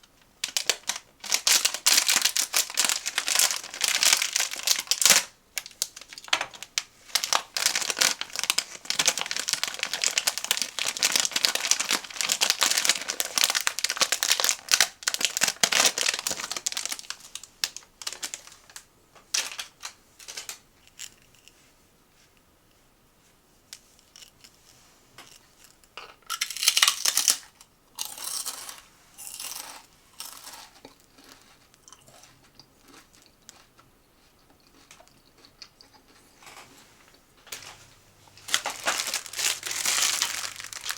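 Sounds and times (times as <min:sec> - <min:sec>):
snack packaging crinkling: 0:00.4 - 0:21.4, 0:25.6 - 0:40.9.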